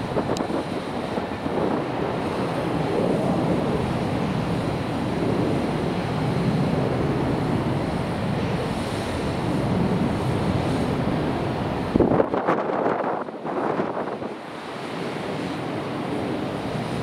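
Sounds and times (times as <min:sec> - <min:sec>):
distant jet engines rumbling: 0:00.0 - 0:17.0.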